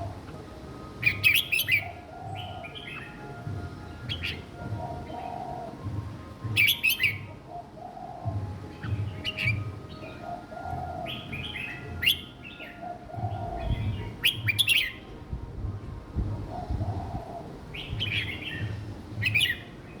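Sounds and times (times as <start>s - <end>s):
bird whistled song: 0.0s - 20.0s.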